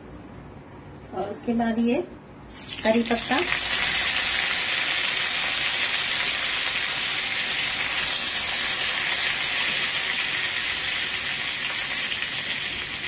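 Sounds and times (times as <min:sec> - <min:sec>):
seeds sizzling in hot oil: 0:02.5 - 0:13.0.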